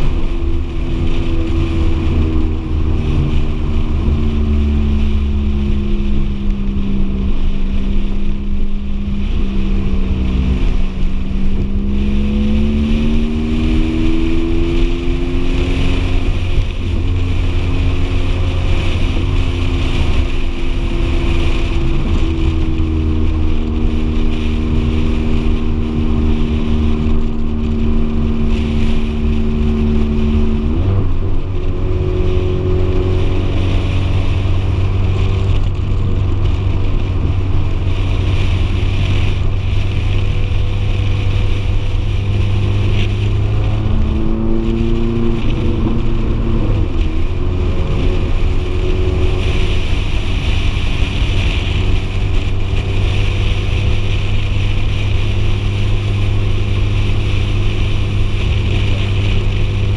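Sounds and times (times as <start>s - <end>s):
car engine droning: 0.0s - 59.9s
wind and road hiss: 0.0s - 59.9s.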